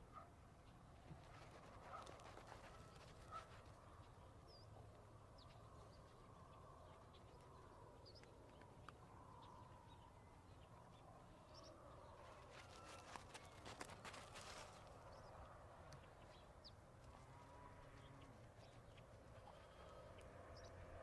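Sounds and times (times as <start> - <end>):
faint outdoor ambience: 0.0 - 21.0.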